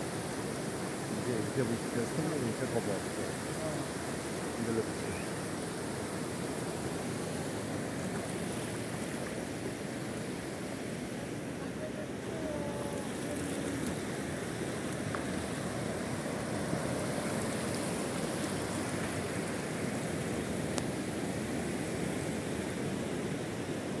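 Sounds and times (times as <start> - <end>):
gentle surf on sandy beach: 0.0 - 24.0.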